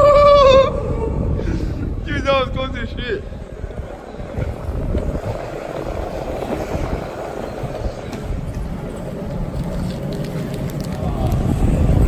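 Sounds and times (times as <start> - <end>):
skateboard wheels rolling on concrete: 0.0 - 12.0.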